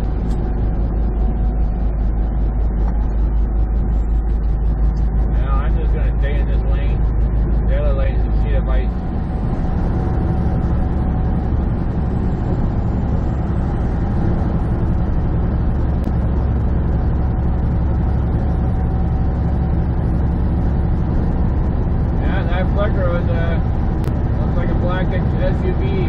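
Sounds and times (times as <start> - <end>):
diesel engine droning: 0.0 - 26.0
road and tyre noise: 0.0 - 26.0.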